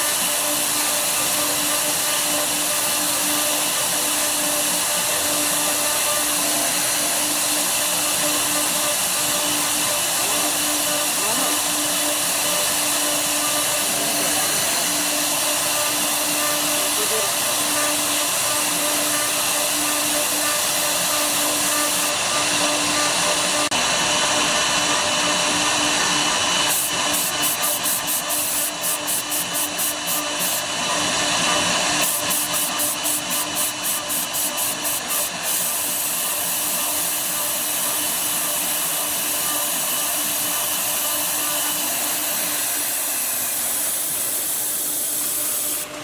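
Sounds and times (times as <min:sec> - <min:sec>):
router cutting hiss: 0:00.0 - 0:46.0.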